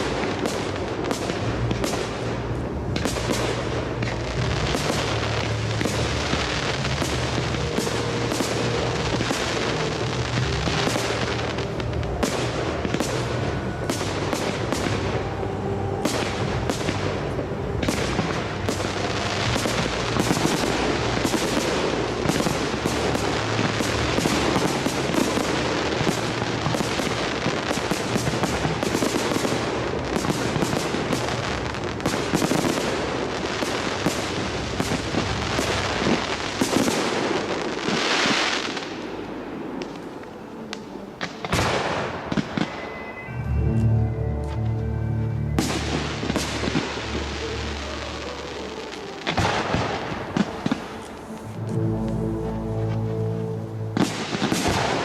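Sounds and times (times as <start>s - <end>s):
music playing: 0.0s - 37.8s, 39.5s - 55.0s
fireworks bursting and crackling: 0.0s - 55.0s.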